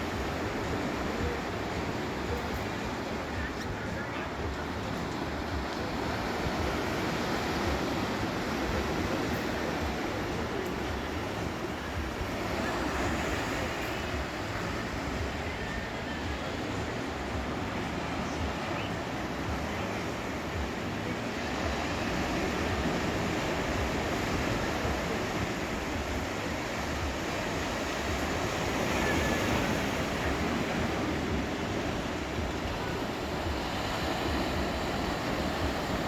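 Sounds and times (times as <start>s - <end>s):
sea waves breaking on beach: 0.0s - 36.0s.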